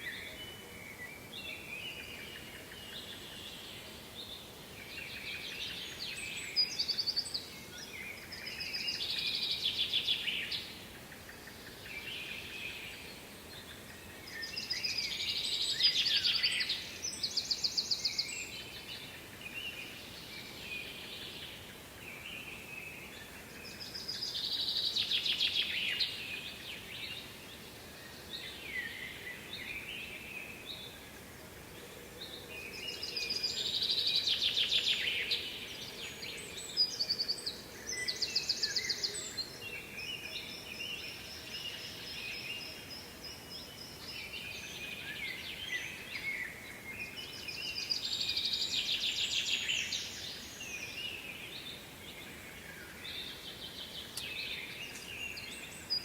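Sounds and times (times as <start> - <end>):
songbirds trilling: 0.0 - 56.0
steady background hiss: 0.0 - 56.0.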